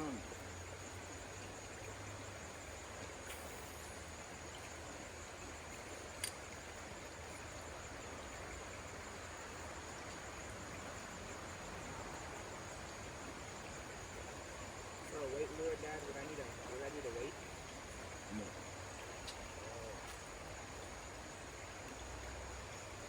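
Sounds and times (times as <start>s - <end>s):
faint hiss: 0.0s - 23.0s.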